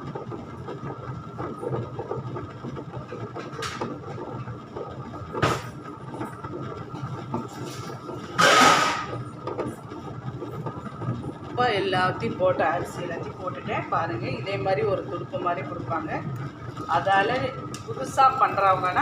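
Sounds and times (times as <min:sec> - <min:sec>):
wet grinder running: 0:00.0 - 0:19.0.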